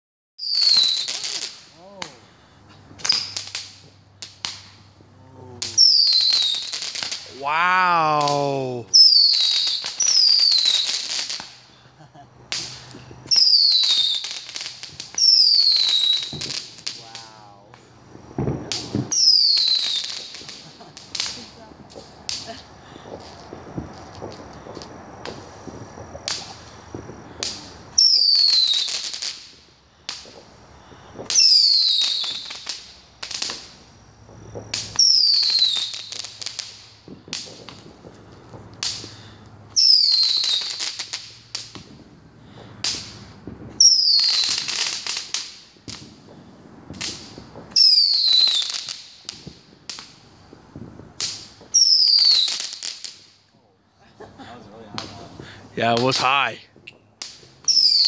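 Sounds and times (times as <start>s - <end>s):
sharp firework pops: 0.4s - 53.5s, 54.4s - 58.0s
firework crackling: 0.4s - 58.0s.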